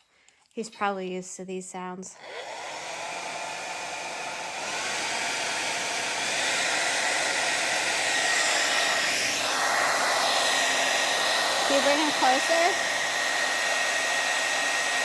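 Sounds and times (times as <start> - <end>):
blow dryer running: 2.2 - 15.0.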